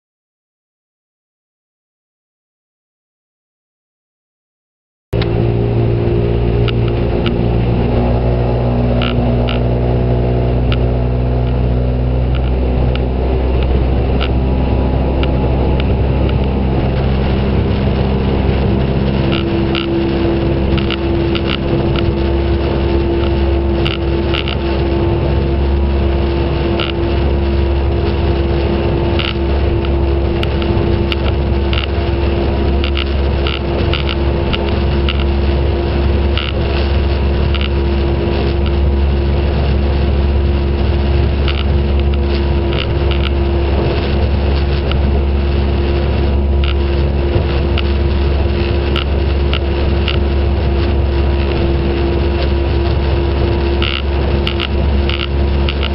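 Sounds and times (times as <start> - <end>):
motorboat engine droning: 5.2 - 55.9.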